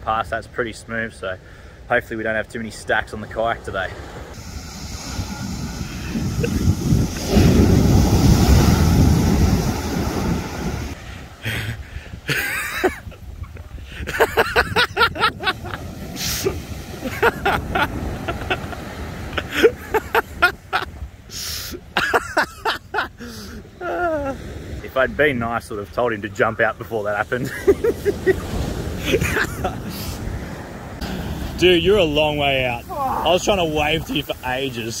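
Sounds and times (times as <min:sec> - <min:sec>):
surf washing up beach: 0:00.0 - 0:35.0
wind buffeting microphone: 0:04.3 - 0:25.9, 0:27.4 - 0:35.0.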